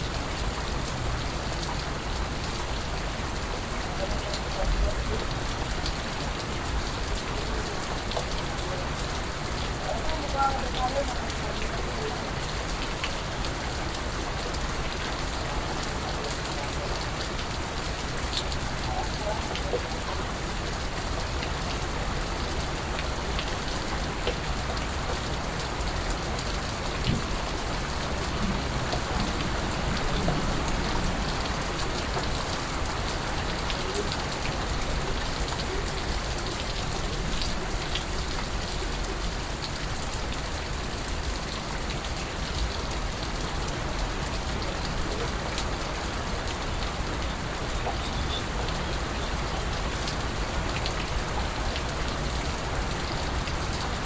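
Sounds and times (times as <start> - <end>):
steady rain hiss: 0.0 - 54.0
drops and drips ticking: 0.1 - 54.0.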